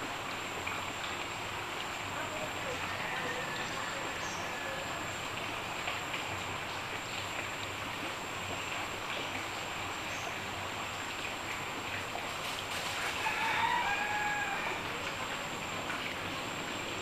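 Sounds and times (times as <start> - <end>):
floodwater rushing along a drain: 0.0 - 17.0.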